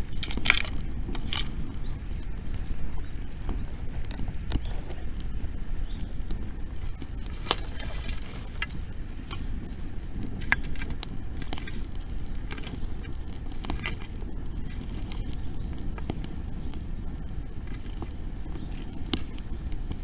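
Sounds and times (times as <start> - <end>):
wood bonfire crackling: 0.0 - 20.0.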